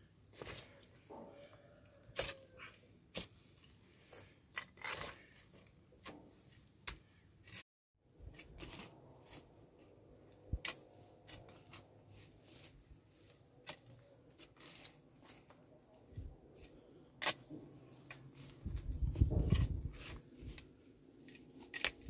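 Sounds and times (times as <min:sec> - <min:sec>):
shovel digging soil: 0:02.0 - 0:07.6, 0:08.2 - 0:15.5, 0:16.6 - 0:22.0.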